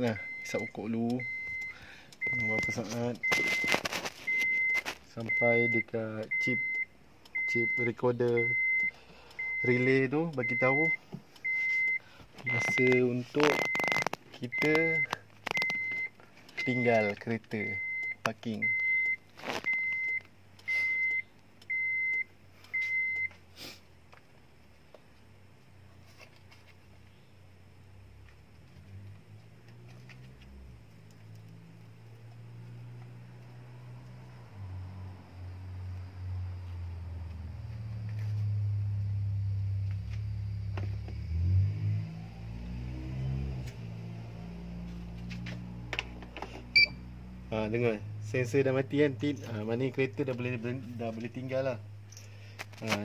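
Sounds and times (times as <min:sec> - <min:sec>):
vehicle engine humming: 0:00.0 - 0:18.5, 0:19.1 - 0:52.8.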